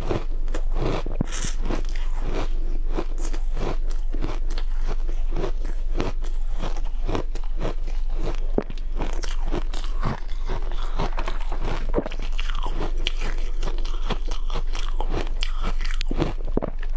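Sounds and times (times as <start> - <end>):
person chewing crunchy ice: 0.0 - 16.9.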